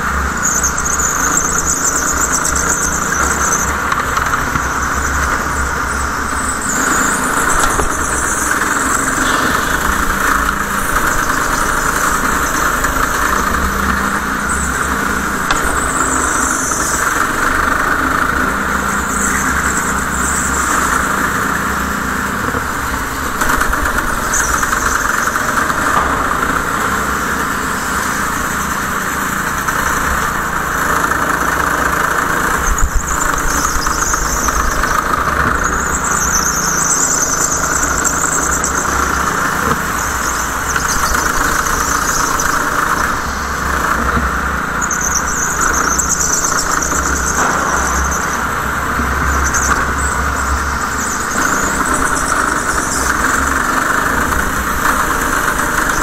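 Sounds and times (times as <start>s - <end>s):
go-kart motor droning: 0.0s - 56.0s.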